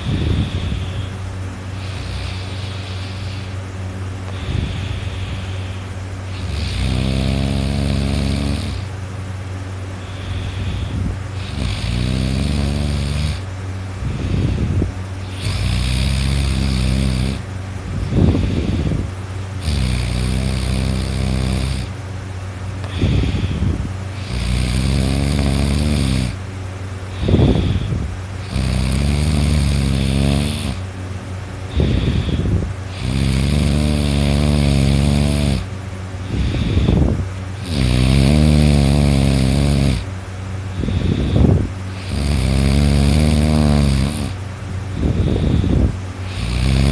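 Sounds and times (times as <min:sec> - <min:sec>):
person snoring loudly: 0:00.0 - 0:01.2, 0:01.8 - 0:03.6, 0:04.3 - 0:08.9, 0:10.0 - 0:17.5, 0:18.1 - 0:22.0, 0:22.8 - 0:26.4, 0:27.1 - 0:30.9, 0:31.7 - 0:40.1, 0:40.7 - 0:46.9
rough fluttering breaths: 0:00.0 - 0:46.9.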